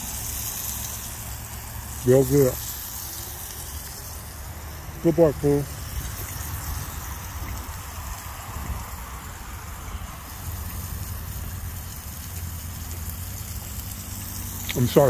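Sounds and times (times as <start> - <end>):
cars passing: 0.0 - 15.0
road traffic rumble: 0.0 - 15.0.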